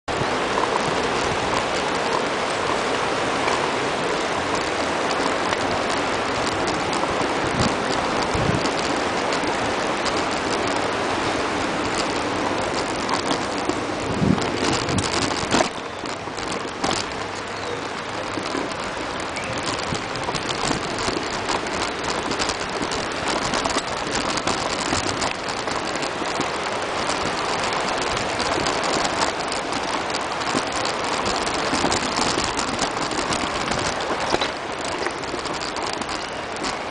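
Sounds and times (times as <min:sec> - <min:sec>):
river rushing: 0:00.1 - 0:36.9.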